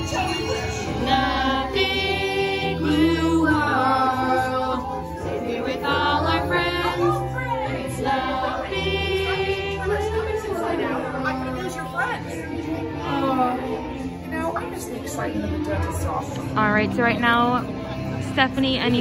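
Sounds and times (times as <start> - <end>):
choir singing long notes: 0.0 - 16.2.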